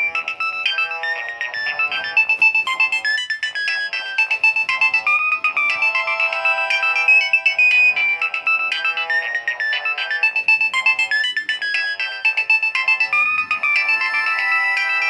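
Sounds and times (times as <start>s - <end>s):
mobile phone ringtone melody: 0.0s - 15.0s.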